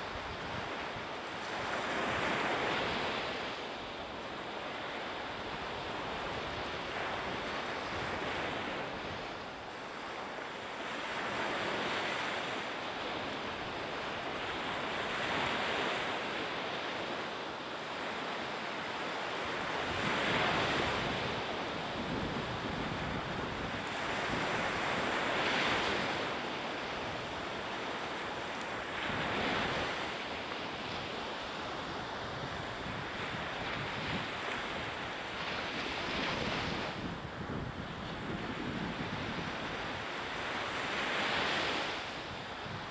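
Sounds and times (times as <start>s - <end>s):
wind: 0.0s - 42.9s.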